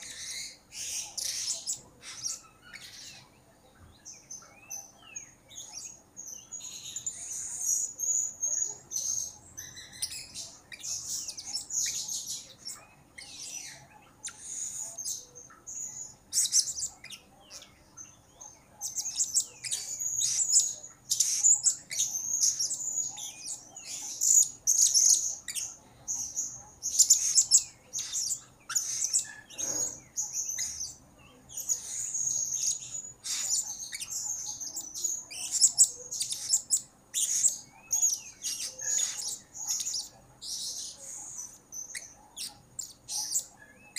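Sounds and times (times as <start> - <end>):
parrot chirping high-pitched calls: 0.0 - 3.4, 4.3 - 43.9.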